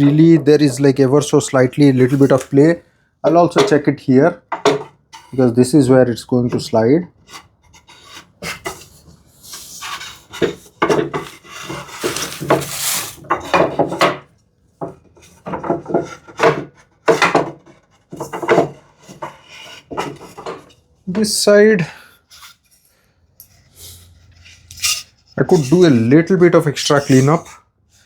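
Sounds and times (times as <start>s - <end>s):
wood scraping against wood: 0.0s - 3.9s, 4.5s - 28.0s.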